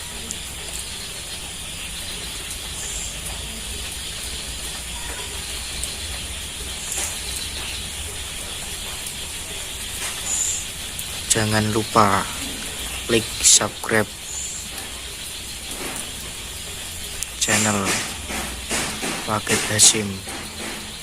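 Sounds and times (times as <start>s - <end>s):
high-pitched outdoor hiss: 0.0s - 21.0s.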